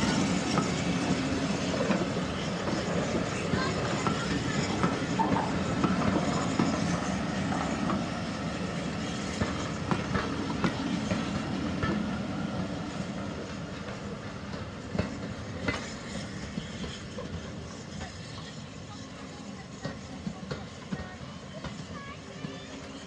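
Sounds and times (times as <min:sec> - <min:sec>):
train rumble: 0:00.0 - 0:23.0
train wheels clicking on rails: 0:00.0 - 0:23.0.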